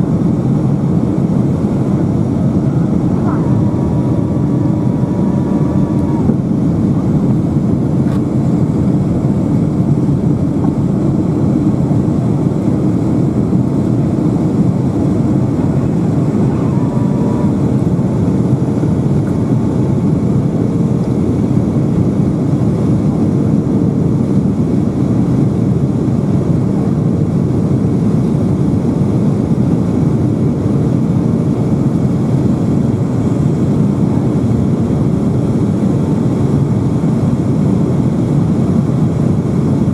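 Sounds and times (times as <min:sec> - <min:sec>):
airplane cabin roar: 0:00.0 - 0:39.9
faint steady hum: 0:00.0 - 0:39.9.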